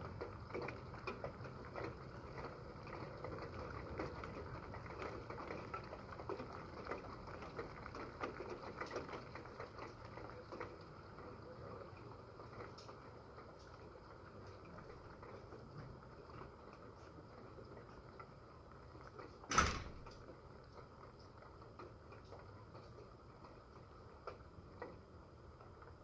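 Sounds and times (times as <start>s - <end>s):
light rain pattering and dripping: 0.0s - 26.0s.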